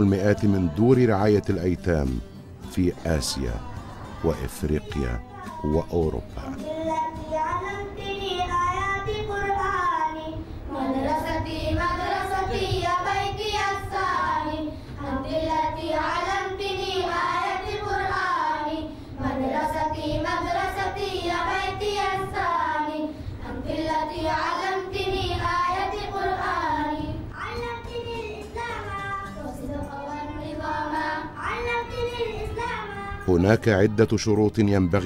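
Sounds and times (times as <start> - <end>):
boys singing in unison: 0.0 - 2.2, 2.8 - 35.0.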